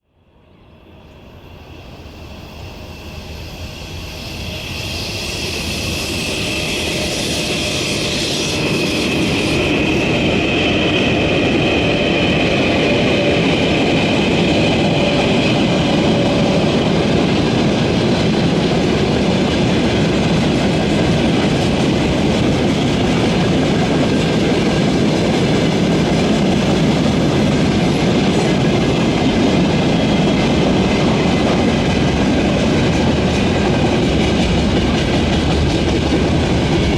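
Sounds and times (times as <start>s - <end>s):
locomotive high whine: 0.5s - 36.9s.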